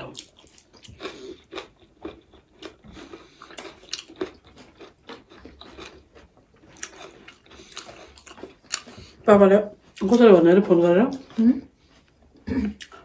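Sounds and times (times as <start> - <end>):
chewing and mouth sounds: 0.0 - 10.2, 11.1 - 13.0.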